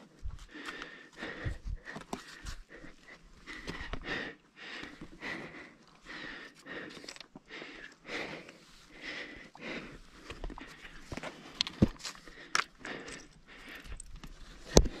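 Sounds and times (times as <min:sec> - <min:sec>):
person breathing hard: 0:00.1 - 0:15.0.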